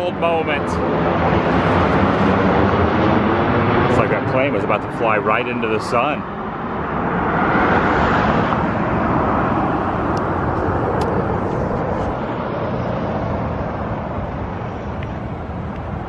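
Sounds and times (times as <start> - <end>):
jet airliner passing overhead: 0.0 - 16.0.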